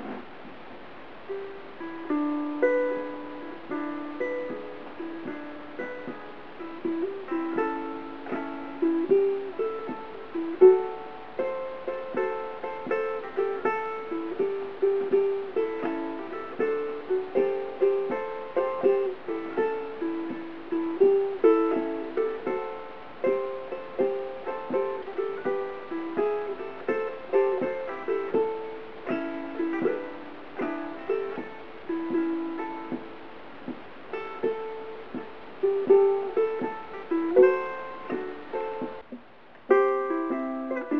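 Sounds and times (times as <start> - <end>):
ukulele picking blues: 0.0 - 40.9.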